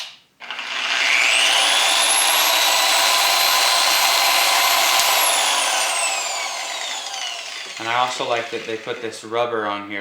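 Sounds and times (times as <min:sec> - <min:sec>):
electric polisher whining: 0:00.5 - 0:09.2.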